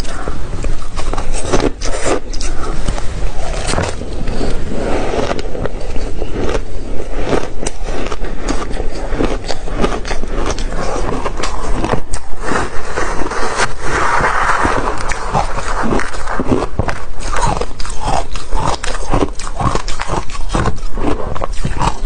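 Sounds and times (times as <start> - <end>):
ice crunching being chewed: 0.0 - 22.0.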